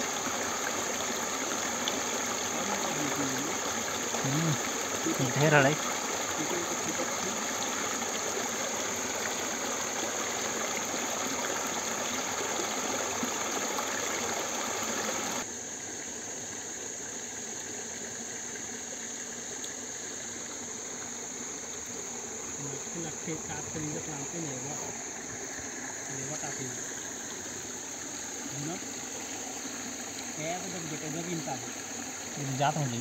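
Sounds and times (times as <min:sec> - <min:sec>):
night insects chirring: 0:00.0 - 0:33.0
steady hiss: 0:00.0 - 0:33.0.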